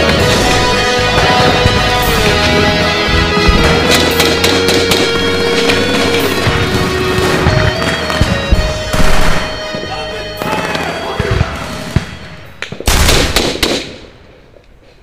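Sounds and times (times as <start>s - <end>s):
music with held tones: 0.0s - 12.5s
gunshots: 0.0s - 14.2s.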